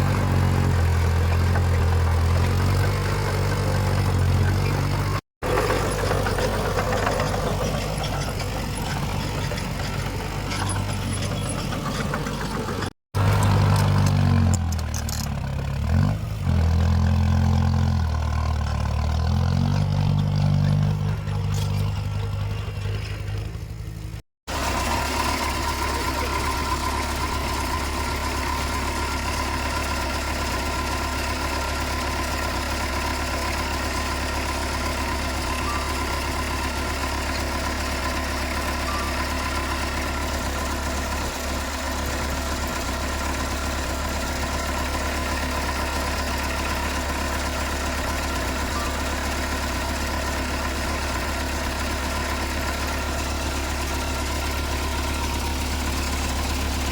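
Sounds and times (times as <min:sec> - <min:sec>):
heavy diesel engine idling: 0:00.0 - 0:14.2, 0:20.0 - 0:56.9.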